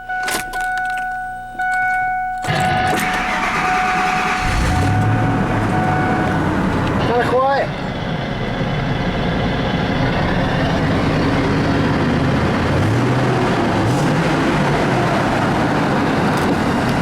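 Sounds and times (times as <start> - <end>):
truck engine accelerating: 2.4 - 17.0.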